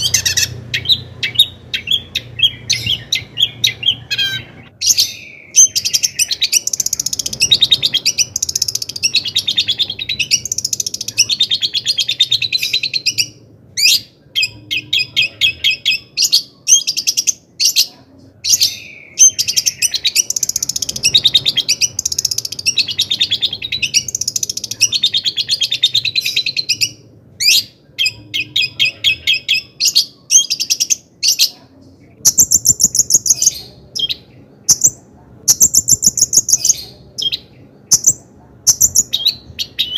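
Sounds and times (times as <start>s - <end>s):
bird singing scratchy chattering song: 0.0s - 39.9s.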